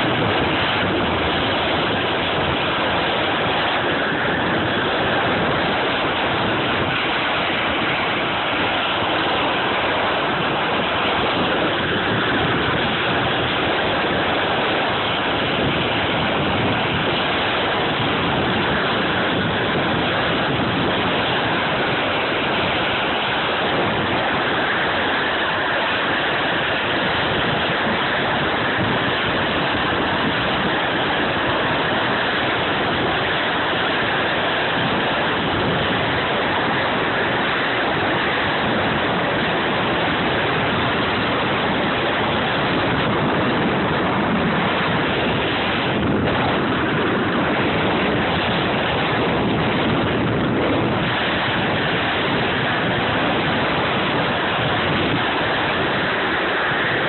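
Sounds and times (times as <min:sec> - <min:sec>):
sliding over snow: 0:00.0 - 0:57.0
wind on microphone: 0:00.0 - 0:57.0.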